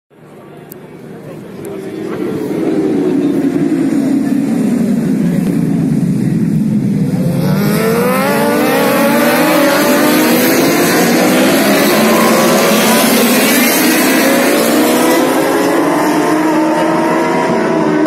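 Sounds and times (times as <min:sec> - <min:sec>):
racing motorcycles revving past: 0:01.6 - 0:18.0.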